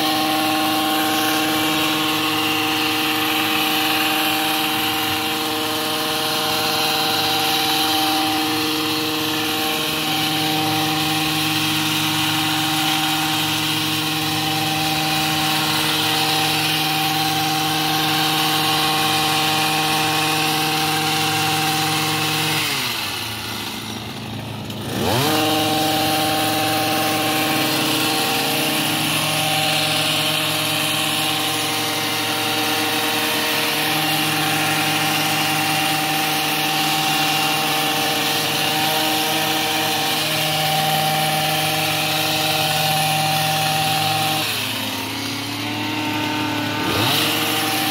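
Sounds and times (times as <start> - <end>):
hedge trimmer engine running: 0.0 - 47.9.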